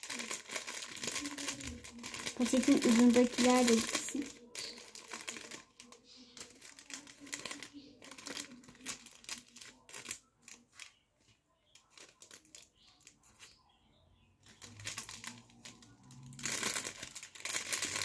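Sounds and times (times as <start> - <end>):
packet crinkling and rustling: 0.0 - 13.6, 14.4 - 18.0.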